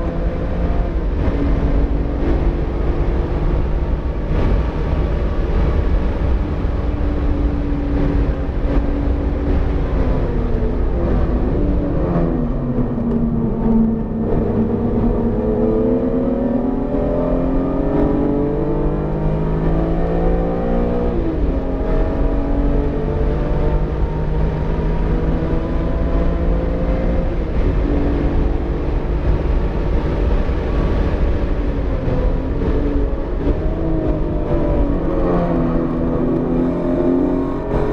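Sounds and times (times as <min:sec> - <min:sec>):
car engine revving: 0:00.0 - 0:37.9
road and tyre rumble: 0:00.0 - 0:37.9.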